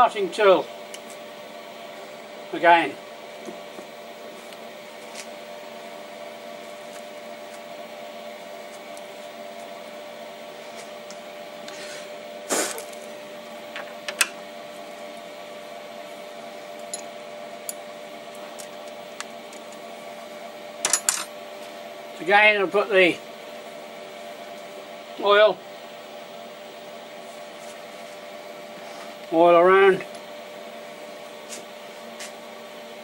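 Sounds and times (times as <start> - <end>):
lathe humming: 0.0 - 33.0.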